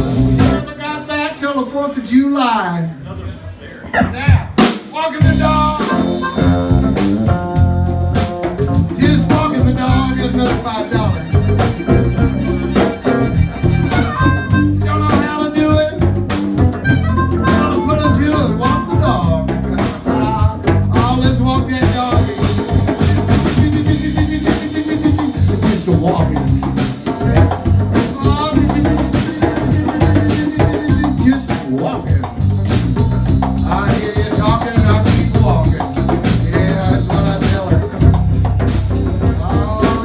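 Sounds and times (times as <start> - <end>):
drum kit: 0.0 - 1.4, 3.8 - 40.0
blues harmonica wailing: 0.0 - 1.5, 5.2 - 40.0
man singing: 4.9 - 7.0, 8.8 - 38.4, 39.0 - 40.0
chugging electric guitar: 5.2 - 40.0.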